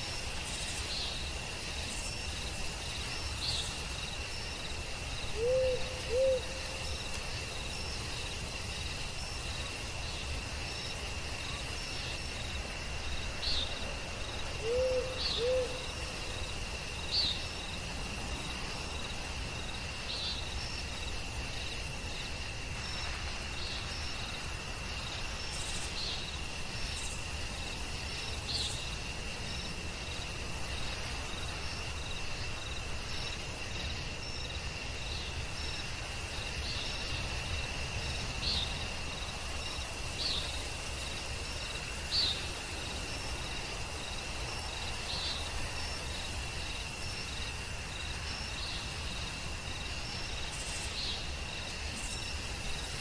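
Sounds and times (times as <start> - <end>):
crickets trilling: 0.0 - 53.0
high insect chirps: 0.0 - 53.0.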